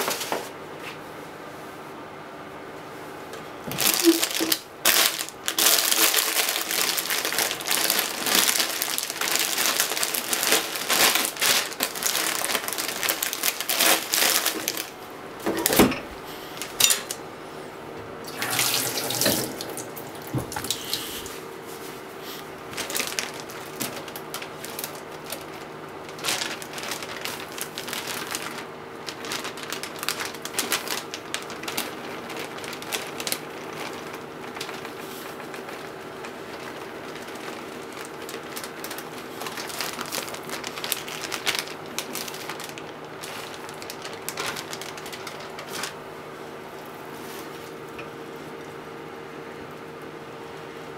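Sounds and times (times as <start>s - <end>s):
steady low hum: 0.6s - 50.9s
plastic bag crinkling: 3.6s - 17.3s, 18.3s - 49.0s.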